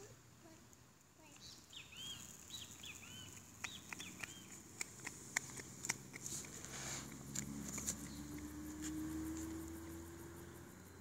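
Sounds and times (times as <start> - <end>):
high insect buzz: 0.0 - 11.0
small birds chirping: 0.0 - 11.0
sharp clicks and ticks: 0.7 - 11.0.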